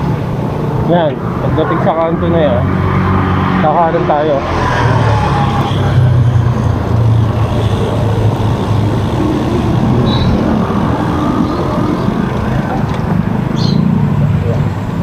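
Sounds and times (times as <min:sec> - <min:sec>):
road noise on wet street: 0:00.0 - 0:15.0.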